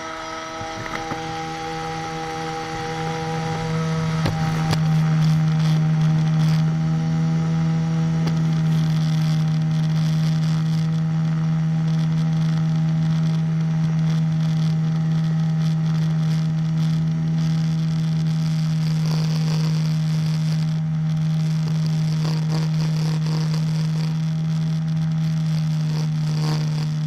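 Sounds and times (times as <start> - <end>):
propeller engine drone: 0.0 - 27.0.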